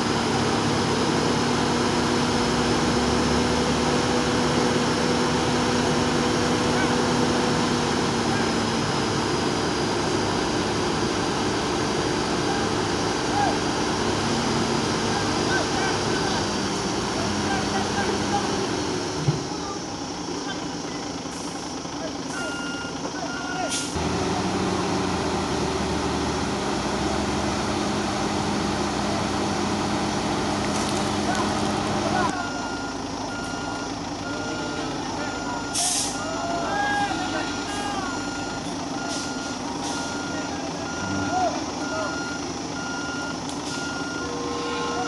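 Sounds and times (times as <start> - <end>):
heavy diesel engines running: 0.0 - 45.0.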